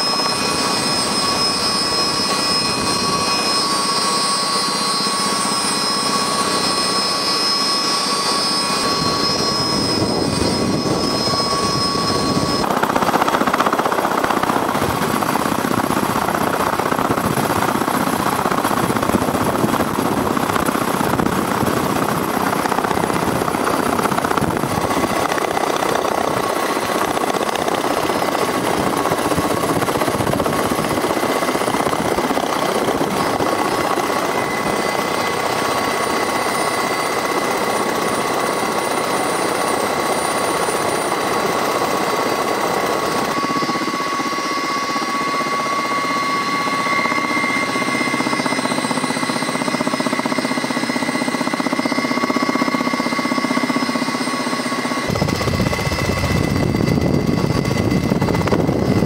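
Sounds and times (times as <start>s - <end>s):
high steady whine: 0.0s - 40.0s, 41.3s - 59.0s
helicopter rotor and engine din: 0.0s - 59.0s.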